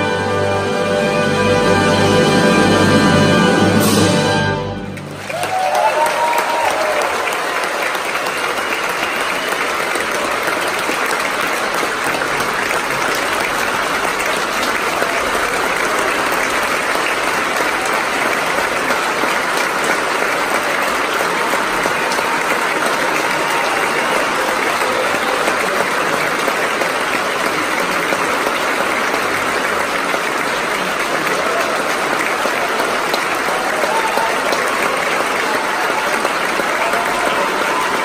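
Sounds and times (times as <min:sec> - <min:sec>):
audience applauding: 0:01.7 - 0:38.0
high cheer: 0:05.0 - 0:38.0.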